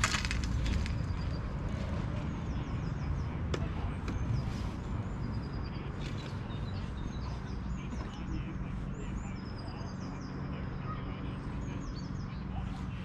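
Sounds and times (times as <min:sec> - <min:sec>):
songbird chirping: 0:00.1 - 0:13.0.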